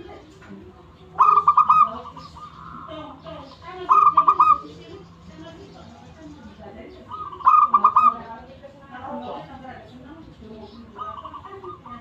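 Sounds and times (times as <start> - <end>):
dove cooing: 0.8 - 5.6, 6.4 - 12.0.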